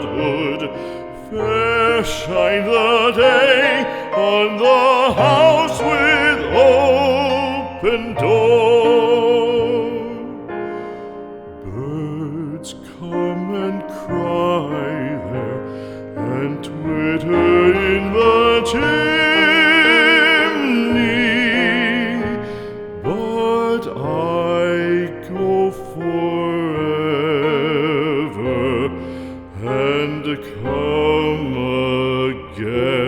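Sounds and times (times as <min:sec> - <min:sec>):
slow tender instrumental song: 0:00.0 - 0:33.0.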